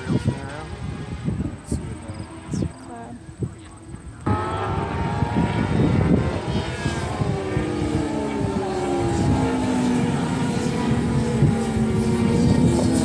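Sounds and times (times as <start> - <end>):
aircraft propellers running: 0.0 - 13.0.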